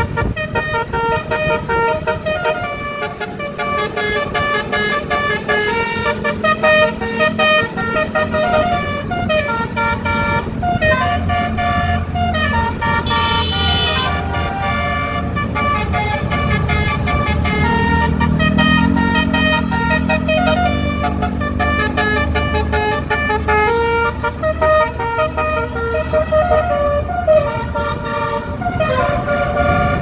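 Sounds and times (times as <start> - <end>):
bus musical horn playing a tune: 0.0 - 30.0.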